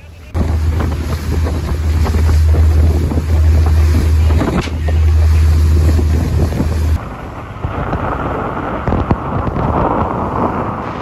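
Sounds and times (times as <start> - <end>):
boat engine droning: 0.0 - 10.7
water rushing past hull: 0.0 - 11.0
wind buffeting microphone: 0.2 - 11.0.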